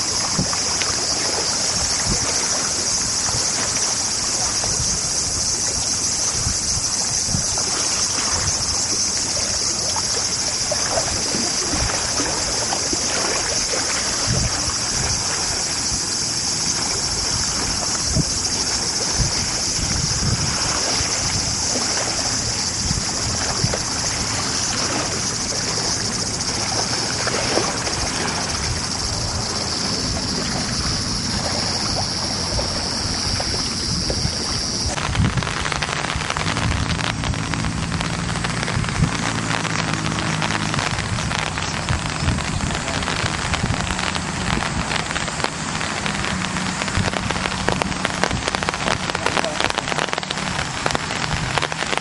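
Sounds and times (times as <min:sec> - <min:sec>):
river running over rocks: 0:00.0 - 0:52.0
wind gusts on microphone: 0:00.0 - 0:52.0.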